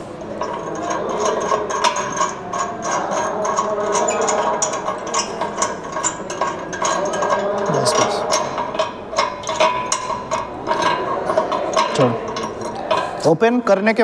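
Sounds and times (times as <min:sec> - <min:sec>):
metallic clicking and clinking: 0:00.2 - 0:13.4.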